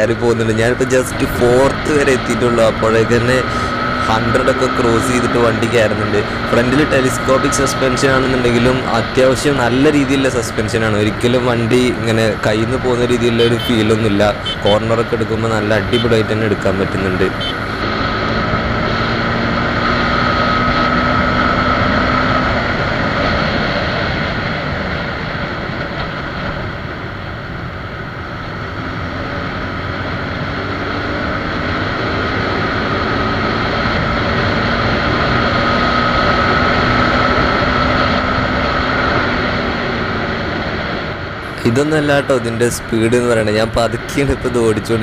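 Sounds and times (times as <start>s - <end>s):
road noise: 0.0s - 45.0s.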